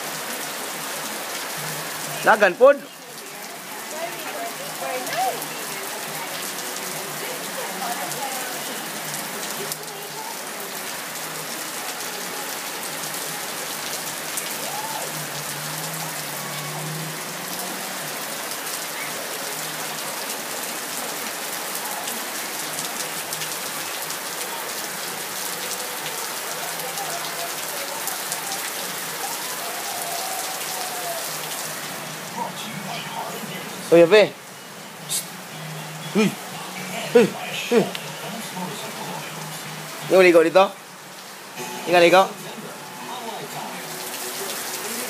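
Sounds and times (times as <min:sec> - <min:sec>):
rain on wet concrete: 0:00.0 - 0:45.0.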